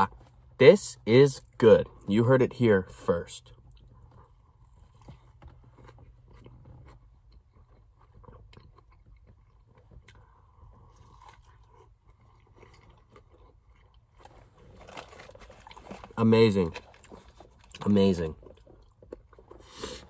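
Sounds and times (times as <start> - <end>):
person chewing with crunching clicks: 3.4 - 20.0.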